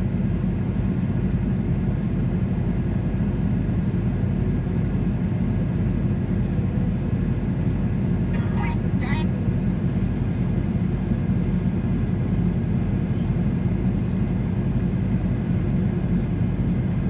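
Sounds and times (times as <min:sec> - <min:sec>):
low vehicle rumble: 0:03.3 - 0:17.0.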